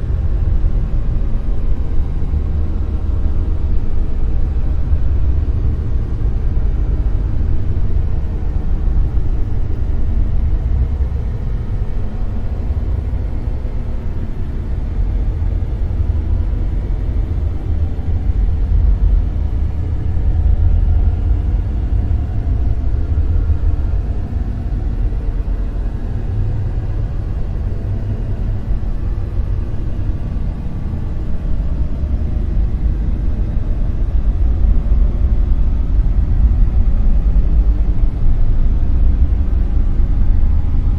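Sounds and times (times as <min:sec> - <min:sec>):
deep rumbling hiss: 0:00.0 - 0:40.9.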